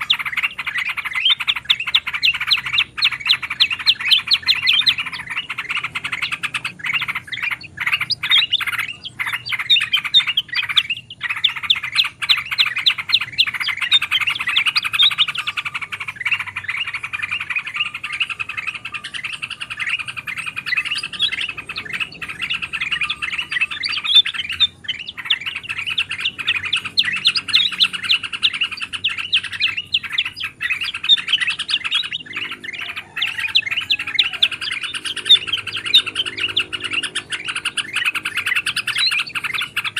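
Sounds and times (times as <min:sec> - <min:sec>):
bulbuls chattering and chirping: 0:00.0 - 0:39.9.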